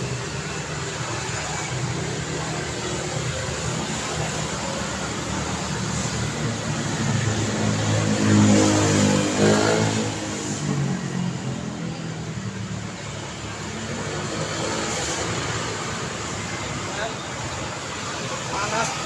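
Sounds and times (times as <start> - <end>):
steady traffic noise: 0.0 - 19.0
vehicle passing and accelerating: 0.0 - 19.0.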